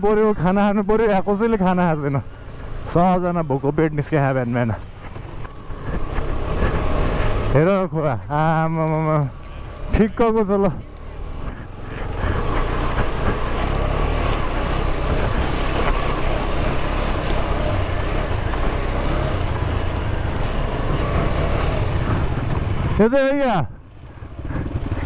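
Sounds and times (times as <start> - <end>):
motorcycle running: 0.0 - 25.0.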